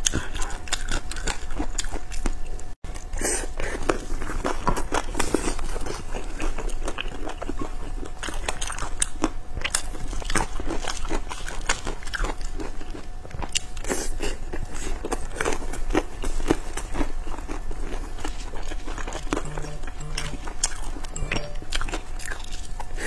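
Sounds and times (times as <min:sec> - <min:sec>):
wet chewing mouth sounds: 0:00.0 - 0:21.1.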